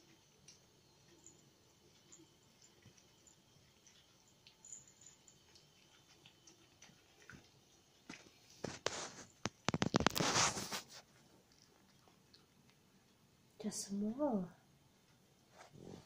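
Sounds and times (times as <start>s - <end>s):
cat chewing and licking: 0.0s - 13.5s.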